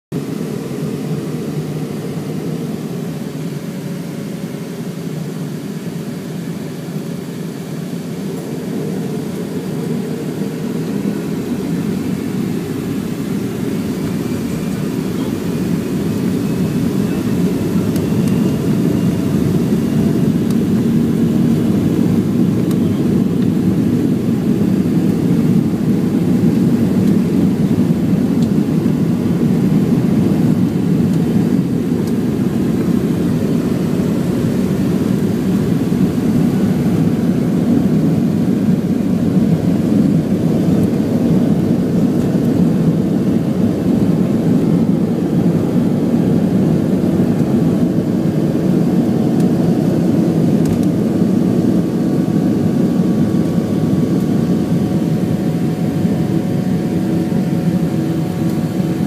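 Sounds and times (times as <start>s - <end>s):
airliner engines rumbling: 0.1s - 59.0s
jet engine whine: 0.1s - 59.0s.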